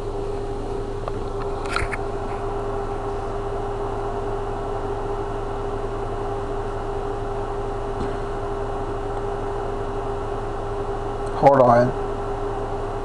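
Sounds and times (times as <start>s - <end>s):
machine hum with steady tone: 0.0s - 13.0s.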